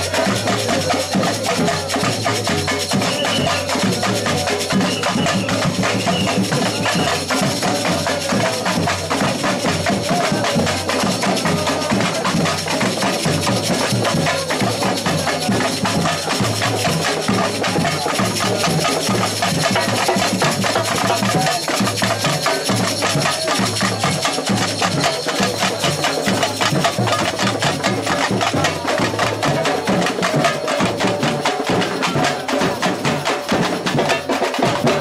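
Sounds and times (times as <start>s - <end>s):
samba percussion band: 0.0s - 35.0s.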